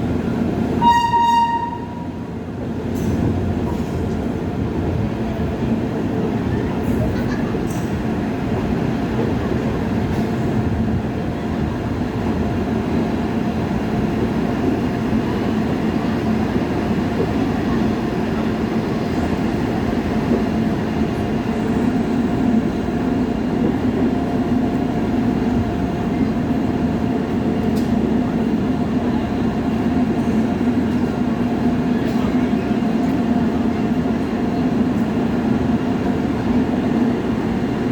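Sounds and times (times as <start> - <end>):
train rumble: 0.0 - 37.9.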